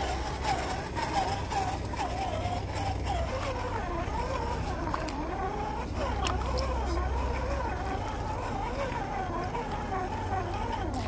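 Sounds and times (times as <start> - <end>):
electric motor whining: 0.0 - 11.0
faint clicks: 0.0 - 11.0.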